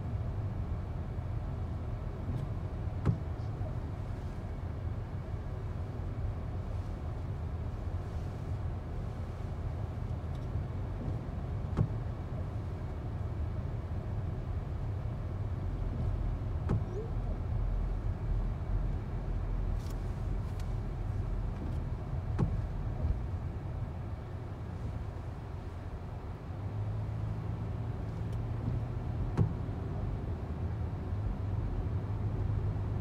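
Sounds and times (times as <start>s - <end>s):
vehicle low rumble: 0.0s - 33.0s.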